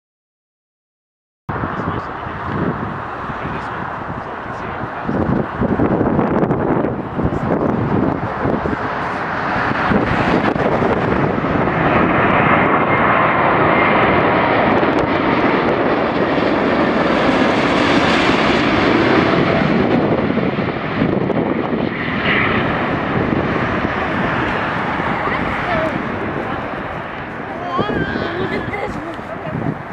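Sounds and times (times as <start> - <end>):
high engine whine: 1.5 - 29.9
jet engines rushing overhead: 1.5 - 29.9.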